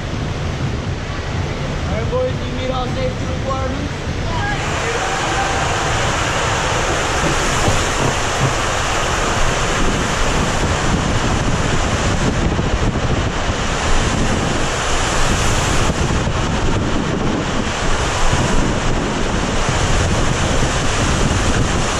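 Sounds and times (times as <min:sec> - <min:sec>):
water rushing through slide tube: 0:00.0 - 0:21.9.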